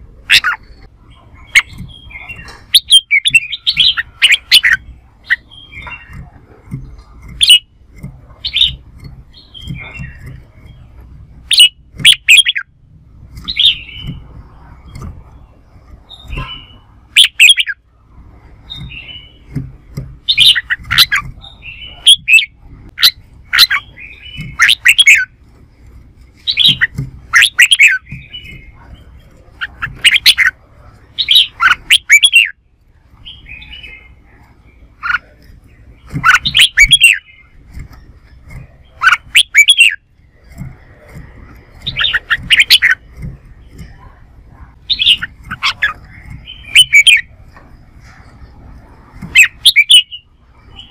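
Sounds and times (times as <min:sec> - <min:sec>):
bird warbling and chirping: 0:00.0 - 0:50.9.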